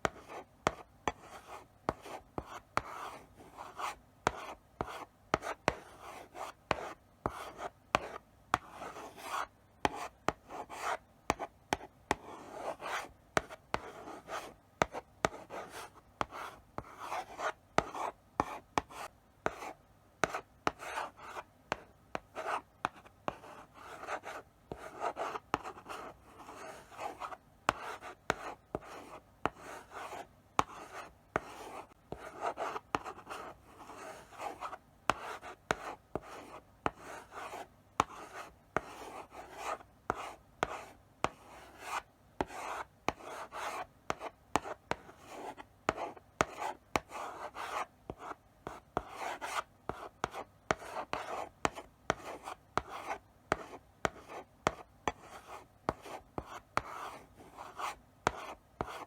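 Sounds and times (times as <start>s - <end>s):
chalk tapping on board: 0.0s - 3.1s, 3.7s - 5.8s, 6.4s - 19.6s, 20.2s - 28.8s, 29.4s - 59.0s
chalk scratching on blackboard: 0.0s - 21.8s, 22.4s - 59.0s.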